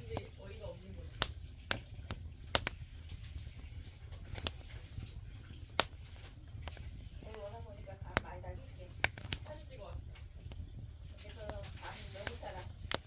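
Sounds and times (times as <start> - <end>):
firewood crackling and popping: 0.0 - 13.0
low fire rumble: 0.0 - 13.0.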